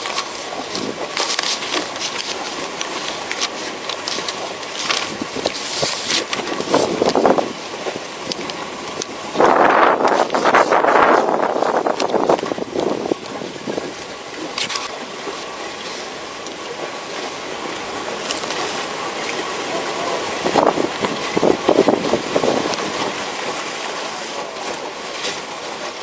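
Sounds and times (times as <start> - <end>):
rushing noise aboard a boat: 0.0 - 26.0.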